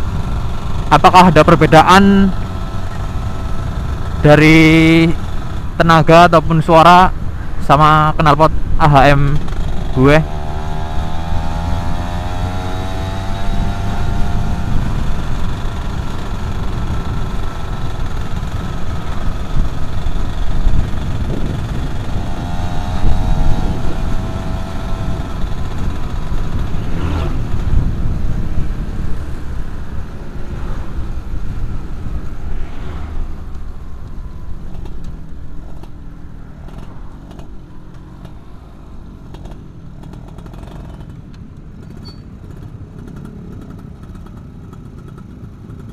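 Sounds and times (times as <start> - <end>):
motorcycle engine accelerating: 0.0 - 5.8, 9.2 - 45.9.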